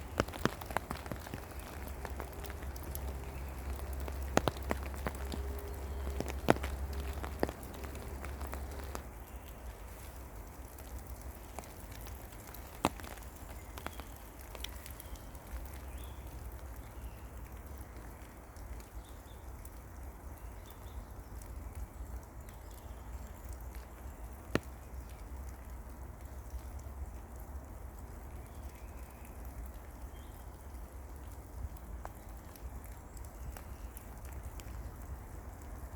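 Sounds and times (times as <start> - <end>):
rain falling in a forest: 0.0 - 35.9.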